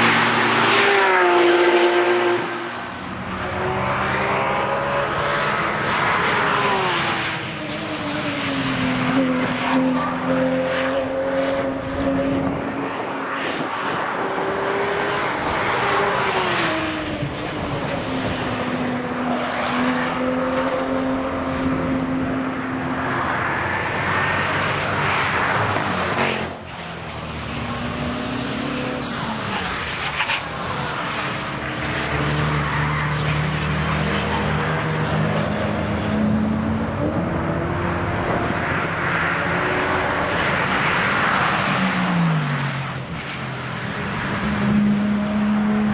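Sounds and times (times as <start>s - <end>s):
race cars passing at high revs: 0.0s - 45.9s.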